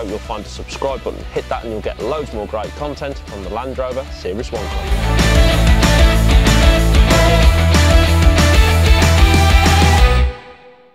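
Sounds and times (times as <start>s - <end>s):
steady drum beat: 0.0s - 10.2s
music with heavy bass: 0.0s - 10.6s.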